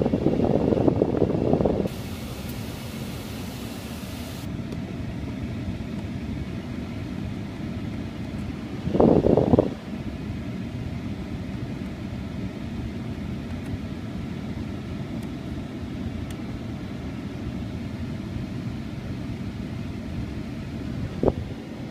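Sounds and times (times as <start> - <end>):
engine idling: 1.5 - 21.9.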